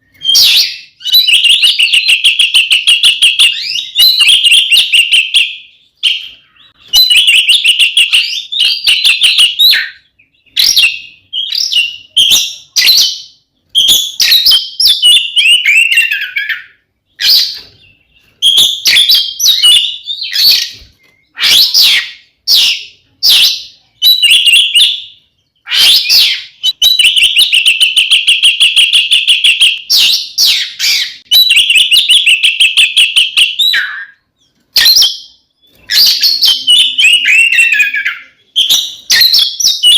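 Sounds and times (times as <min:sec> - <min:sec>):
magpie-robin whistled song: 0:00.0 - 0:39.9.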